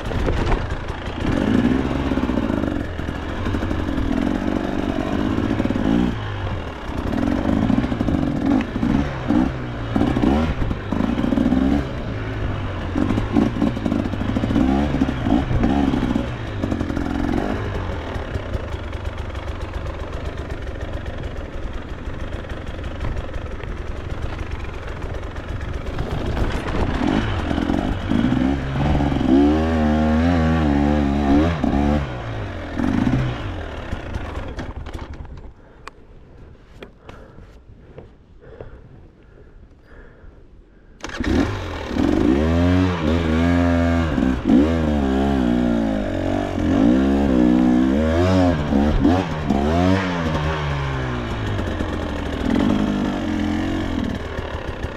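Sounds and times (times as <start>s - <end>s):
dirt bike engine revving: 0.0s - 35.0s, 41.0s - 54.9s.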